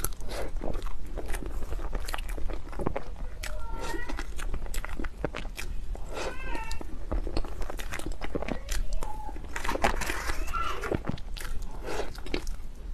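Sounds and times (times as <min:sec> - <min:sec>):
person chewing cake: 0:00.0 - 0:12.9.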